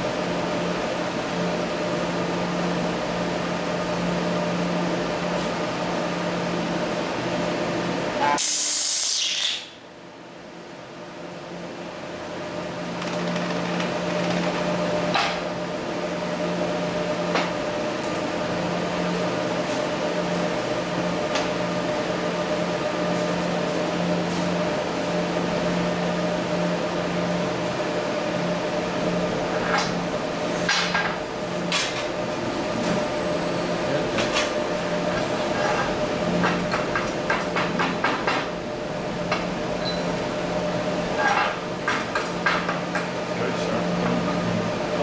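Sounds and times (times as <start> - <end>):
electrical hum with fan rush: 0.0 - 45.0.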